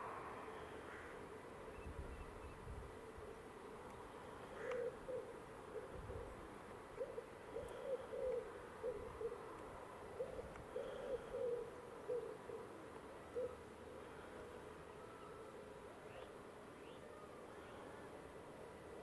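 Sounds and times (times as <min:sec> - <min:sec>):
faint steady tone: 0:00.0 - 0:19.0.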